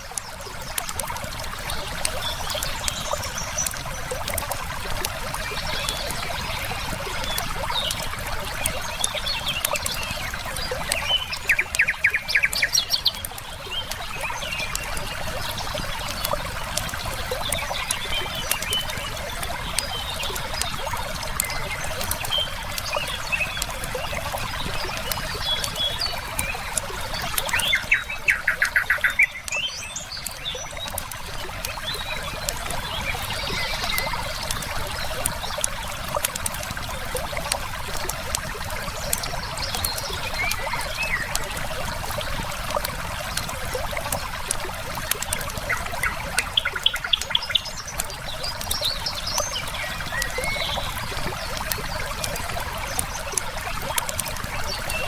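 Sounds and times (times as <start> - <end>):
river flowing: 0.0 - 55.0
songbirds chirping: 0.0 - 55.0
wood fire crackling: 0.0 - 55.0.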